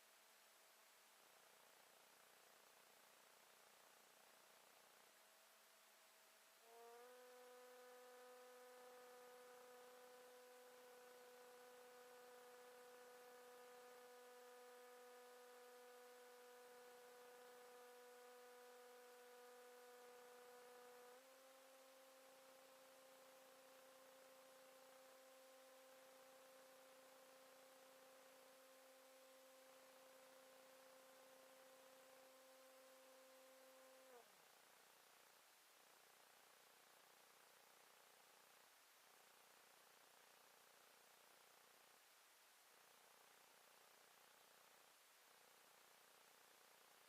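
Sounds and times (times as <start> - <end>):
faint electrical hum: 0.0 - 47.0.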